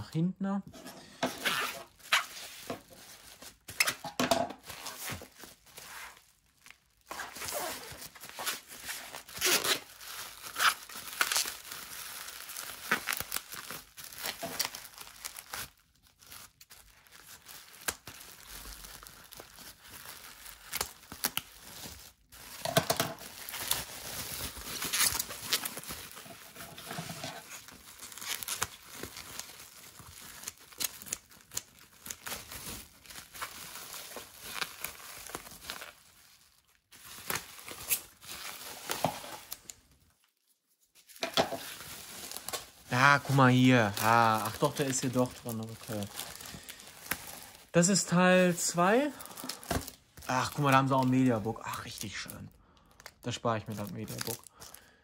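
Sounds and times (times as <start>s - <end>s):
bubble wrap crinkling: 0.8s - 55.0s.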